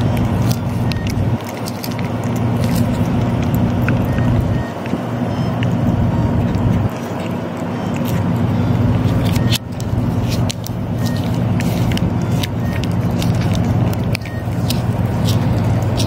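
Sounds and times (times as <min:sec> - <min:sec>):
cat licking and smacking: 0:00.0 - 0:16.0.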